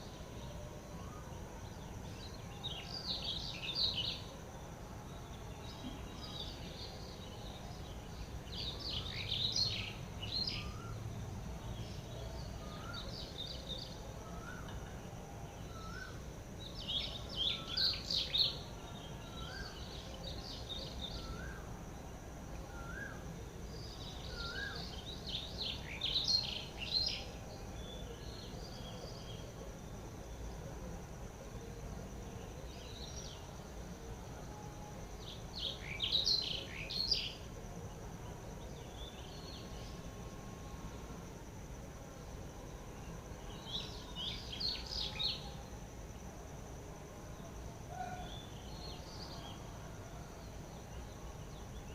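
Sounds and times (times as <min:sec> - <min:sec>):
outdoor background noise: 0:00.0 - 0:51.9.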